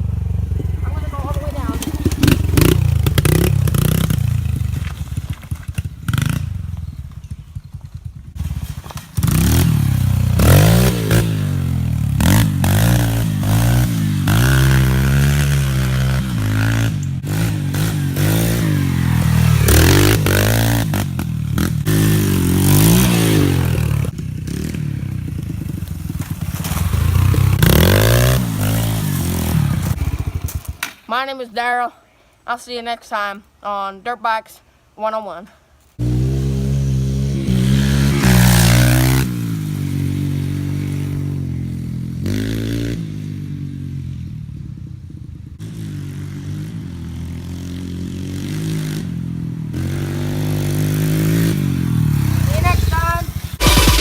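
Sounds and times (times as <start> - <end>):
dirt bike engine revving: 0.0 - 5.1, 7.8 - 30.8, 36.0 - 43.6, 45.6 - 54.0.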